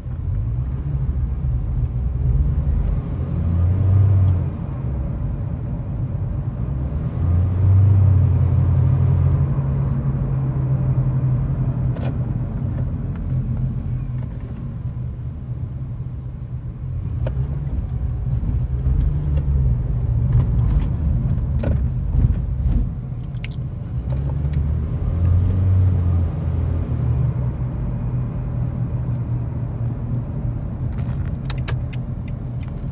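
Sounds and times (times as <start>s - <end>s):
car engine: 0.0s - 32.9s
road noise: 0.0s - 32.9s.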